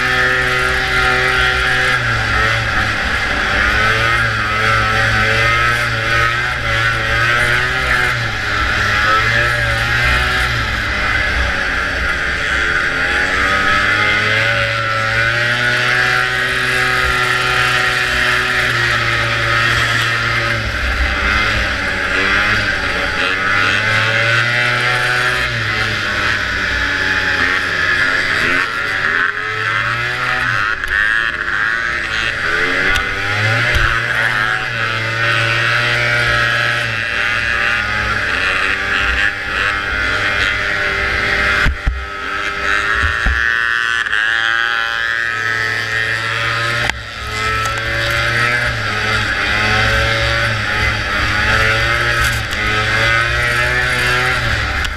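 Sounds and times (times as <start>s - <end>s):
steady rushing noise: 0.0s - 44.2s, 44.8s - 54.9s
snowmobile engine revving: 0.0s - 54.9s.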